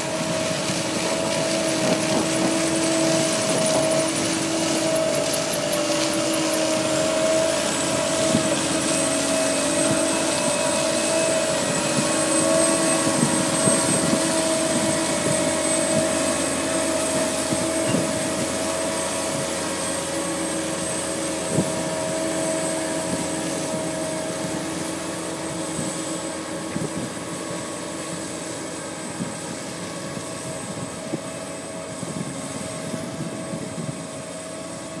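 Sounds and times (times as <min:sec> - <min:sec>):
harvester machine hum and whine: 0:00.0 - 0:35.0.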